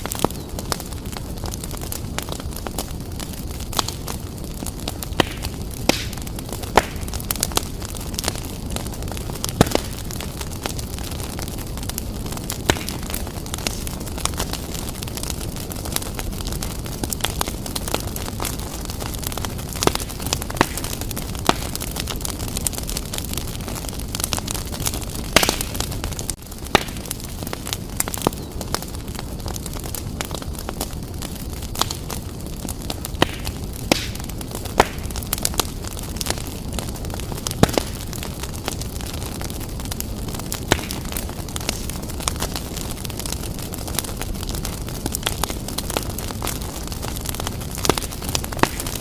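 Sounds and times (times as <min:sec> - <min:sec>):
wood fire crackling and popping: 0:00.0 - 0:49.0.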